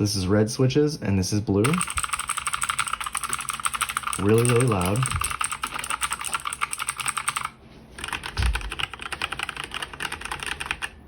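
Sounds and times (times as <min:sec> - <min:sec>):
clicky mechanical keyboard typing: 0:01.6 - 0:11.0.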